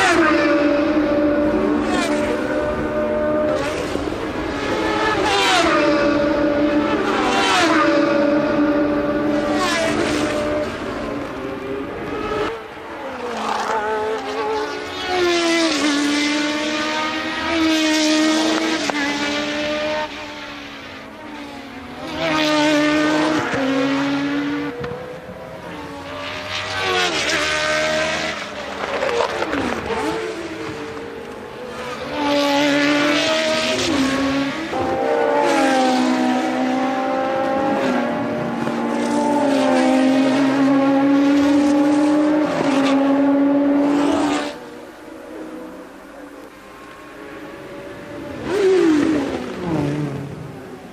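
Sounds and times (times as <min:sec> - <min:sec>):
racing car engines revving: 0:00.0 - 0:50.9.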